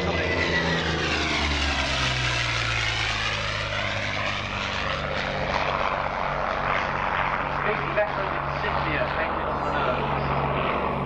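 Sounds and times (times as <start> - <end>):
propeller plane passing low: 0.0 - 11.0.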